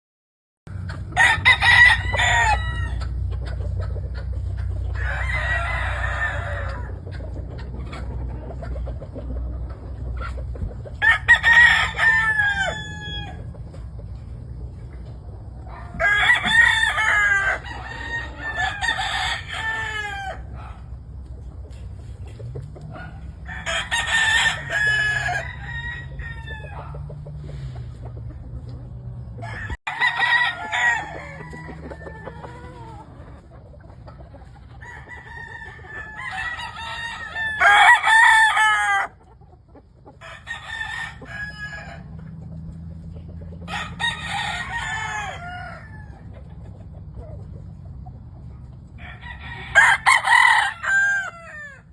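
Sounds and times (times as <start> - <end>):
roosters crowing: 0.7 - 48.2, 48.8 - 51.9.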